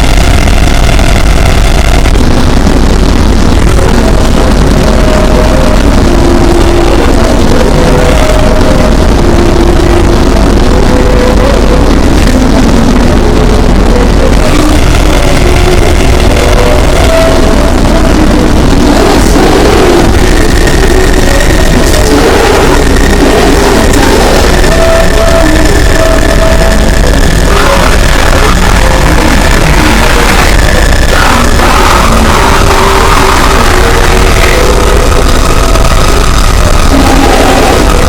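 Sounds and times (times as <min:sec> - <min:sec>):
distorted emergency alert alarm tones: 0:00.0 - 0:38.0.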